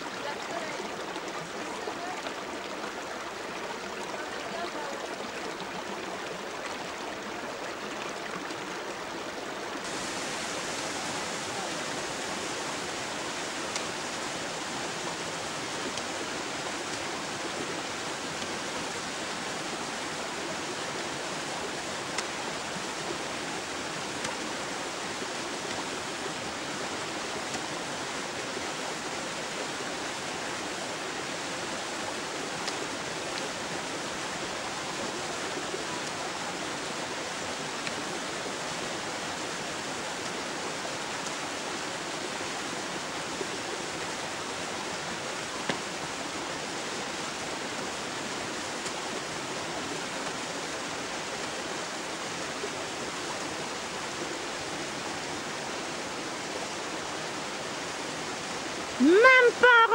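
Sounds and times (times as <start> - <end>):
meltwater rushing: 0.0 - 59.9.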